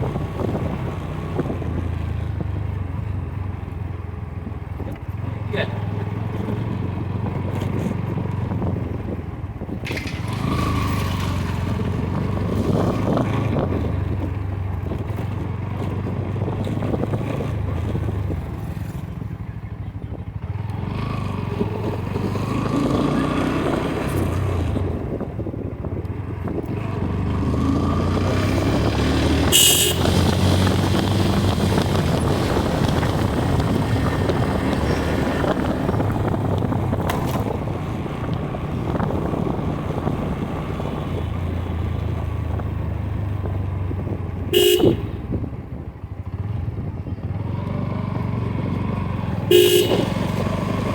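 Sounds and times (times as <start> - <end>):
motorcycle engine running: 0.0 - 50.9
road and wind noise: 0.0 - 50.9.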